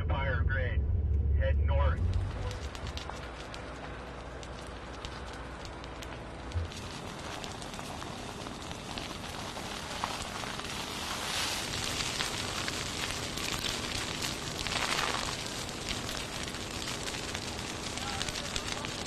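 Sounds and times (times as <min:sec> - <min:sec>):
burning vegetation crackling: 0:00.0 - 0:19.0
rush of flame: 0:02.0 - 0:19.0.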